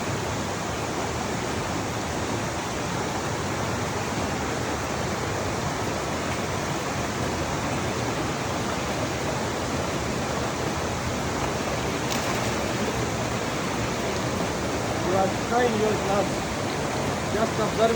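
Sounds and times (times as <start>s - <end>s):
flowing water rushing: 0.0s - 17.9s.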